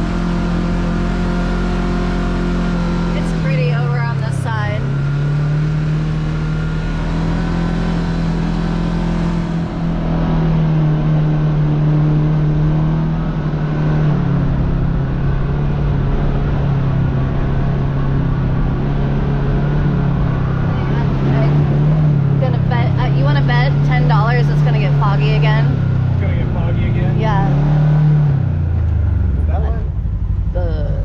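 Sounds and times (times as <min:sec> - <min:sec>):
utility vehicle engine running: 0:00.0 - 0:31.0.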